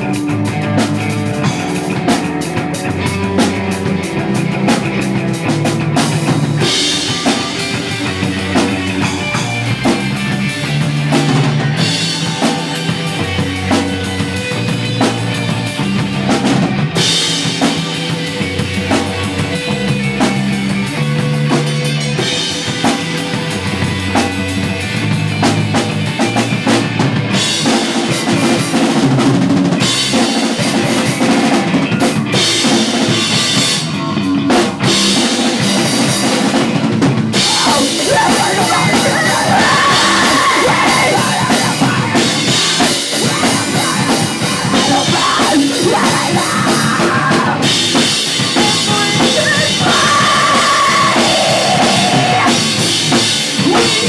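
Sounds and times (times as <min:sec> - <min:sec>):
pop punk band playing live: 0:00.0 - 0:54.0.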